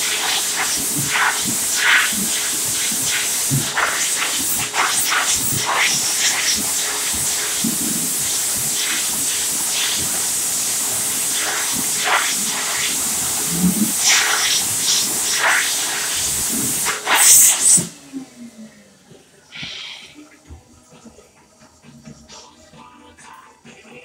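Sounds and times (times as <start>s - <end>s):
hand dryer air rushing: 0.0s - 20.6s.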